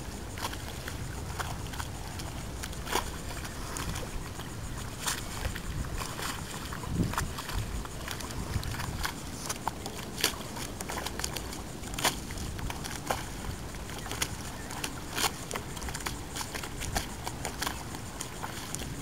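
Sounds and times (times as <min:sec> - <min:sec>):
water lapping and splashing: 0:00.0 - 0:19.0.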